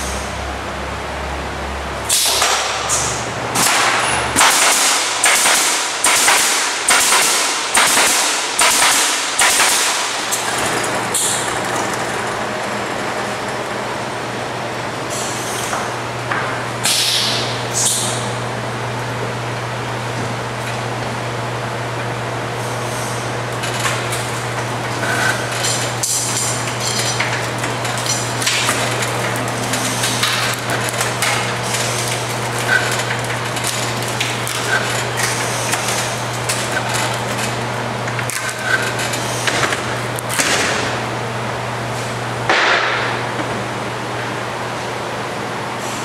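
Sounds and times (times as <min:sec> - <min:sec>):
machine humming: 0:00.0 - 0:45.9.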